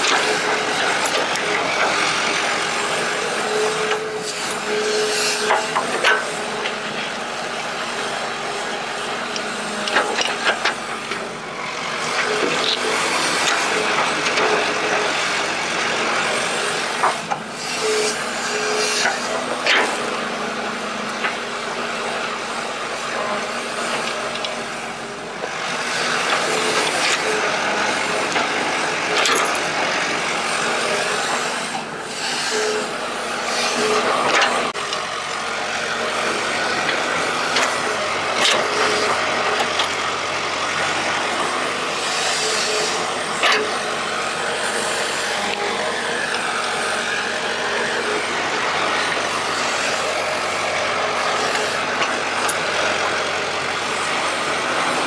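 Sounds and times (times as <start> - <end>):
excavator engine running: 0.0 - 55.0.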